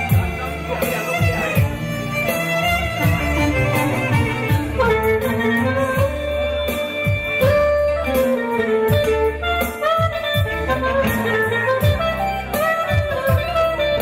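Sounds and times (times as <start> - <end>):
guitar: 0.0 - 14.0
steady beat: 0.0 - 14.0
violin melody: 0.0 - 14.0.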